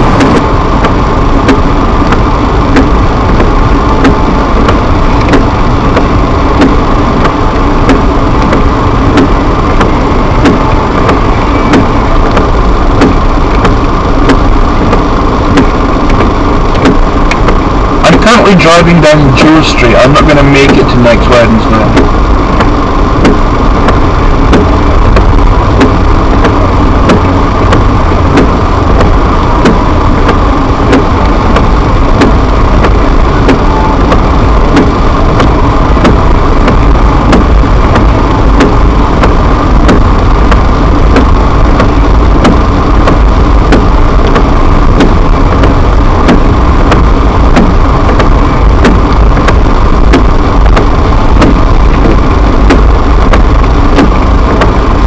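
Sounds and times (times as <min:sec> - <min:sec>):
car engine driving: 0:00.0 - 0:55.0
regular faint clicking: 0:00.2 - 0:17.6, 0:21.9 - 0:54.8.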